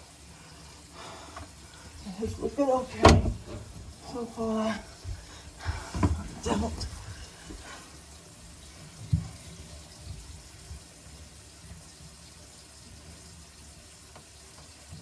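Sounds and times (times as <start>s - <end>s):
water running into sink: 0.0s - 15.0s.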